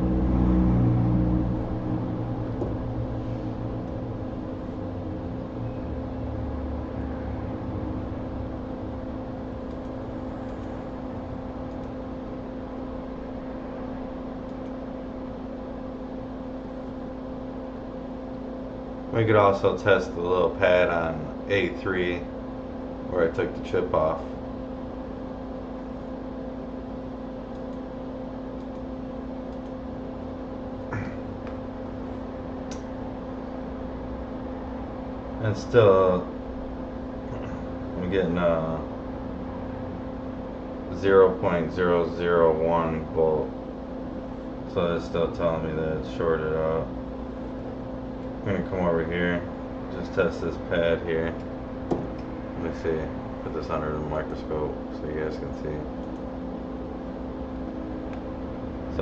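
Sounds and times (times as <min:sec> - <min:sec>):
small electric fan whirring: 0:00.0 - 0:59.0.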